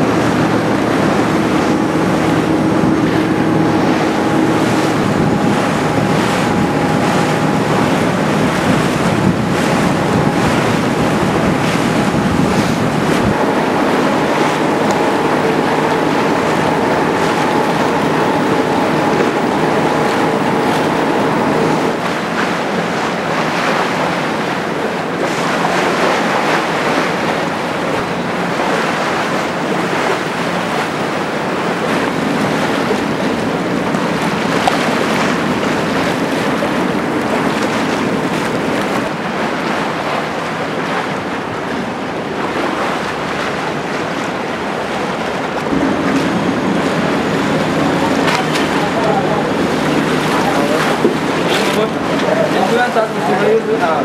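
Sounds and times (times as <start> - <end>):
wind buffeting microphone: 0.0 - 53.2
ferry engine hum: 0.0 - 54.0
water rushing along hull: 0.0 - 54.0.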